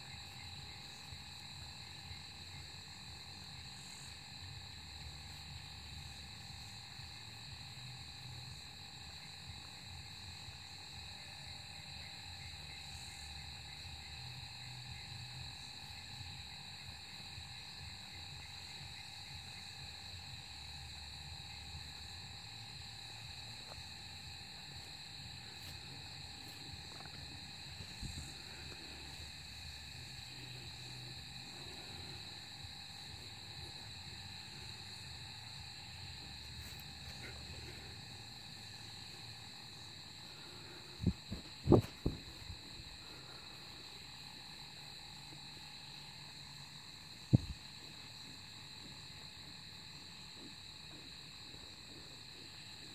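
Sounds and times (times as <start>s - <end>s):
crickets and insects chirping: 0.0s - 52.9s
insect pulsing trill: 0.0s - 52.9s.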